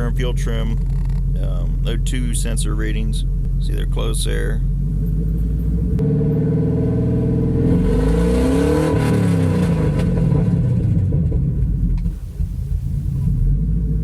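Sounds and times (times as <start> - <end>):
truck engine revving and idling: 0.0 - 14.0.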